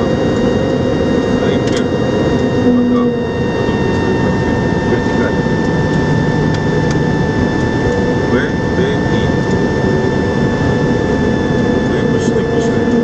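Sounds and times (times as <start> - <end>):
jet engines rumbling: 0.0 - 13.0
thin steady whining tones: 0.0 - 13.0.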